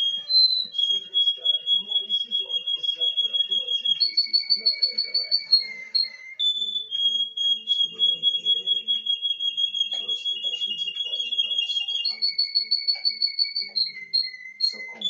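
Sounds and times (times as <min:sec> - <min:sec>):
finch singing trills: 0:00.0 - 0:15.0.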